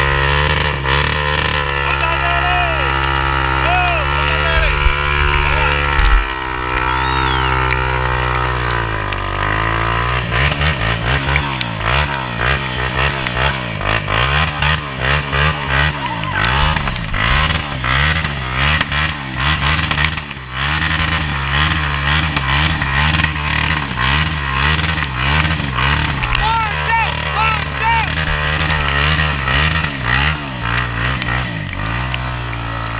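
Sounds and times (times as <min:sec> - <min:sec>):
quad engine revving: 0:00.0 - 0:32.9.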